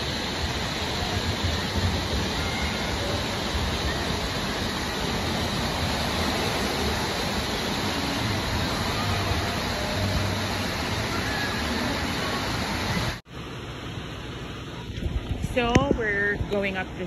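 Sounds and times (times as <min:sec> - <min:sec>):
water rushing and splashing: 0:00.0 - 0:17.0.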